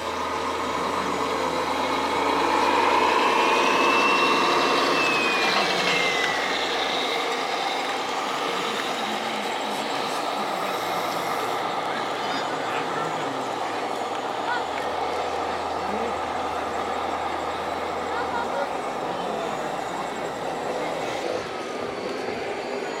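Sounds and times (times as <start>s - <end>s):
model truck motor whine: 0.0s - 23.0s
steady background hum: 0.0s - 23.0s.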